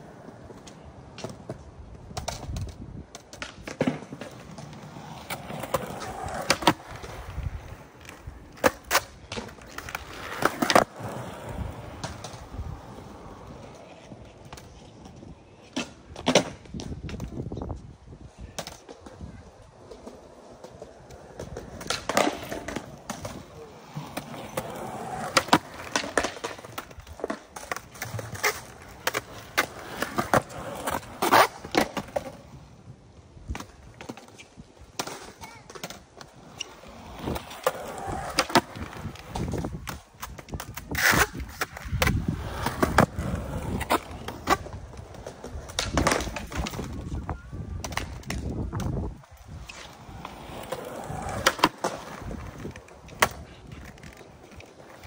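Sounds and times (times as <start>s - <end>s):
skateboard clacking on ground: 0.0s - 17.8s, 18.4s - 32.8s, 33.5s - 55.0s
skateboard wheels rolling on concrete: 0.0s - 55.0s.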